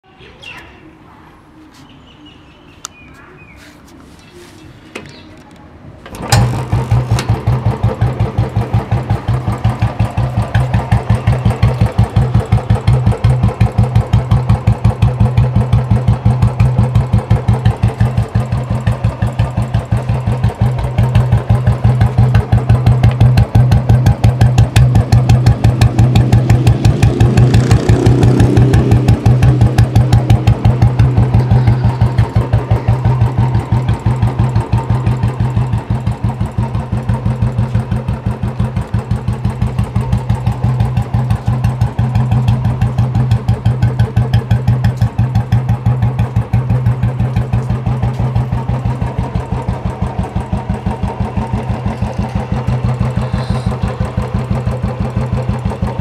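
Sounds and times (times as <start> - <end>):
motorcycle engine idling: 6.1 - 56.0.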